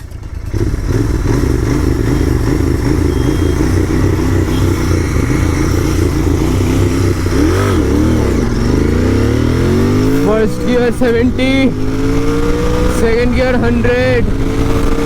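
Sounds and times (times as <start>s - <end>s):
motorcycle engine revving: 0.0s - 15.0s
motorcycle engine running: 0.0s - 15.0s.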